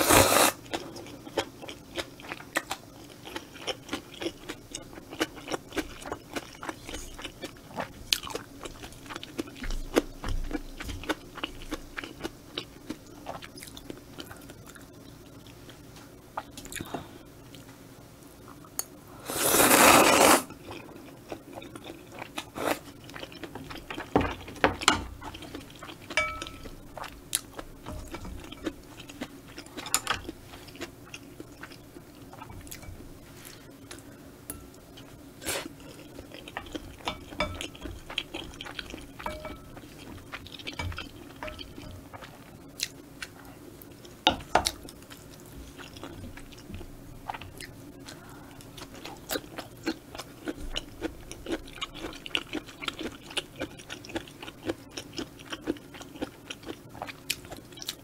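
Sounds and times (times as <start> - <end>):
chewing and crunching food: 0.0 - 17.6, 19.6 - 58.0.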